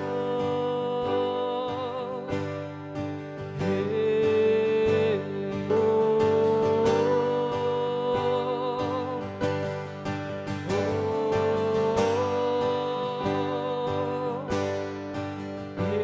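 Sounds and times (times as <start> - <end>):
guitar accompaniment: 0.0 - 16.0.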